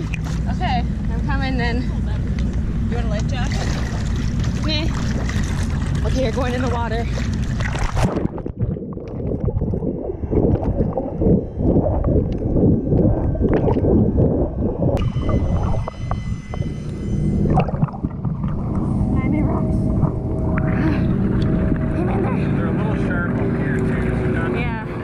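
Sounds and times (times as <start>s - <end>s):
high-pitched whine: 0.0s - 25.0s
muffled underwater gurgling: 0.0s - 25.0s.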